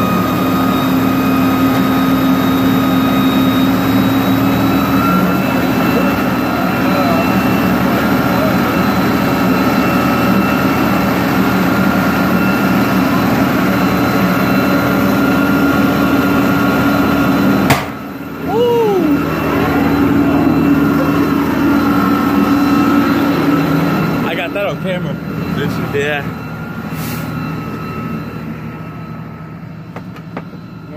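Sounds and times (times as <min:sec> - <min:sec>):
diesel engine humming: 0:00.0 - 0:30.9
short falling whine: 0:00.0 - 0:30.9.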